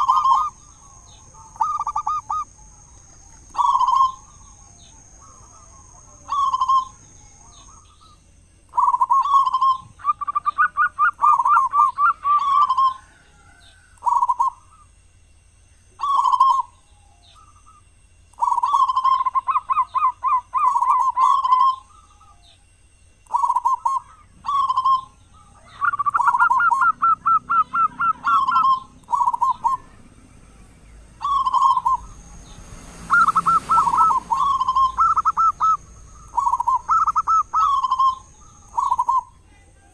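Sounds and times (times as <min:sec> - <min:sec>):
dove cooing and trilling: 0:00.0 - 0:15.0, 0:15.9 - 0:39.6
faint high whine: 0:00.0 - 0:39.9.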